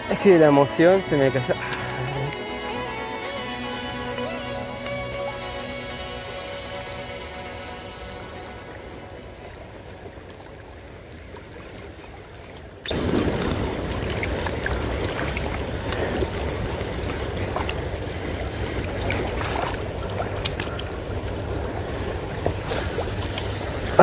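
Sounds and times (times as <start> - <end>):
fast-flowing river current: 0.0 - 24.0.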